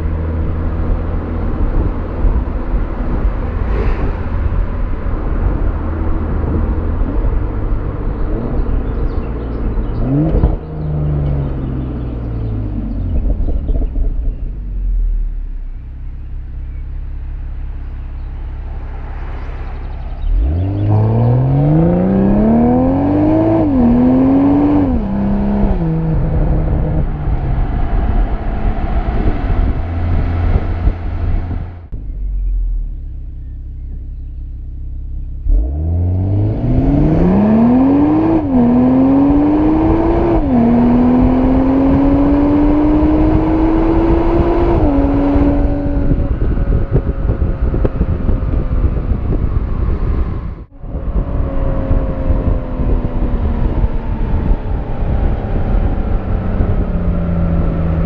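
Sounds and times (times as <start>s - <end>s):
car exhaust rumbling and revving: 0.0s - 58.0s.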